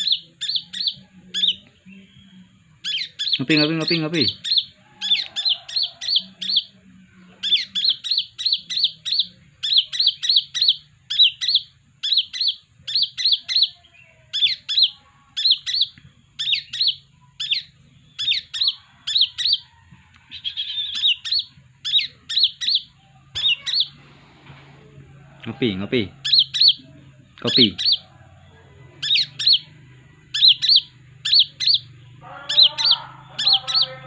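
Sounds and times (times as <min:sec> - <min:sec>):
sunbird chirping: 0:00.0 - 0:34.0.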